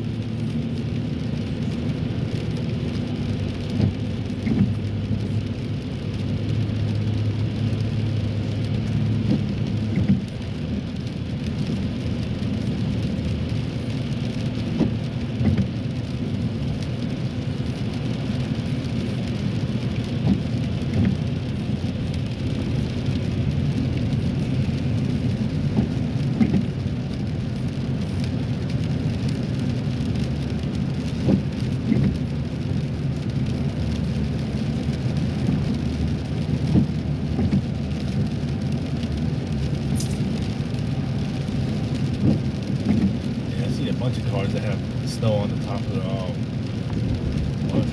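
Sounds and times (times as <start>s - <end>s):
hiss of rain and spray: 0.0s - 47.9s
tyres rumbling on wet road: 0.0s - 47.9s.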